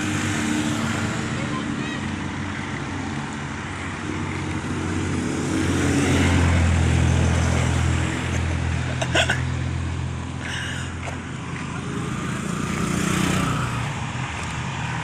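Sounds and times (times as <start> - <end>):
vehicle engine hum passing: 0.0 - 15.0.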